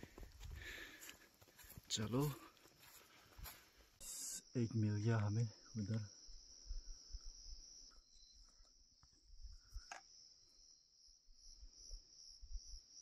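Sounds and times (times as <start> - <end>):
insects trilling: 0.9 - 13.0.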